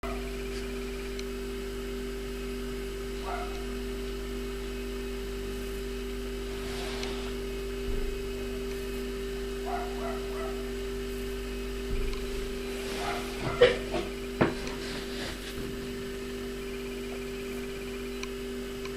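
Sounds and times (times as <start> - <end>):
steady electrical hum: 0.0 - 18.9.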